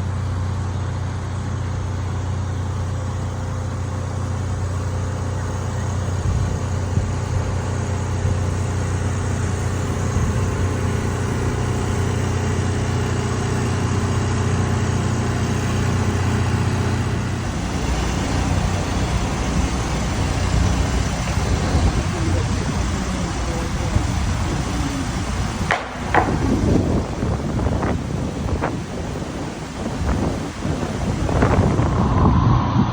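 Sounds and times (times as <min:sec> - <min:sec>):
heavy rain hiss: 0:00.0 - 0:32.2
vehicle engine running: 0:00.0 - 0:32.9.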